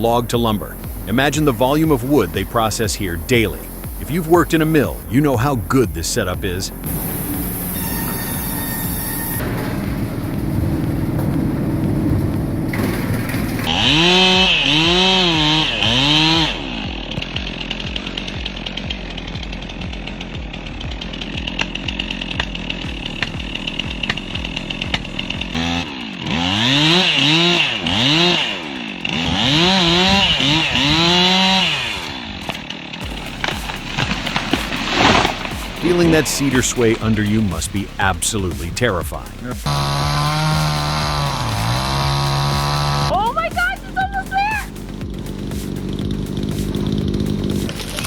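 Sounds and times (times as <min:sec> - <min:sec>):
chainsaw engine revving: 0:00.0 - 0:48.0.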